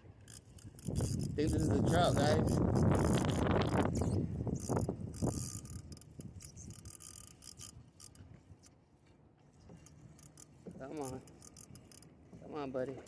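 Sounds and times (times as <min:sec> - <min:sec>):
fishing reel ticking: 0:00.1 - 0:08.8, 0:09.7 - 0:12.4.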